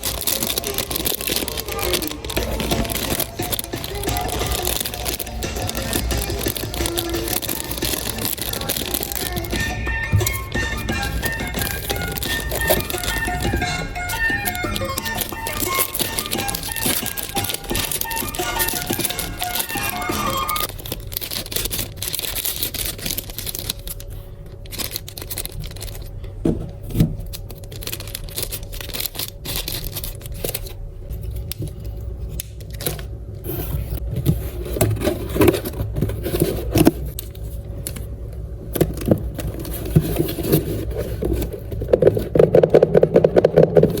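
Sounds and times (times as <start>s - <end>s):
paper and packaging rustling: 0.0s - 44.0s.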